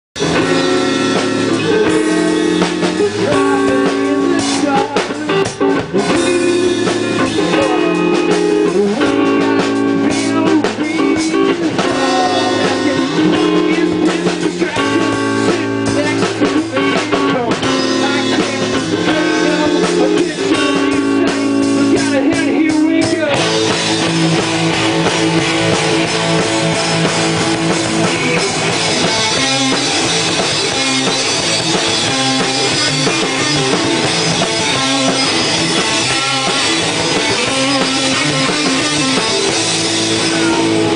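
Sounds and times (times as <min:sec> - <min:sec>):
rock band playing: 0:00.2 - 0:40.9.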